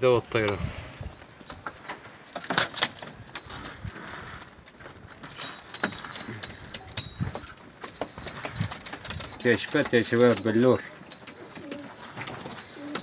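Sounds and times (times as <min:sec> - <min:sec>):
pigeons shifting in cage: 0:01.3 - 0:13.0.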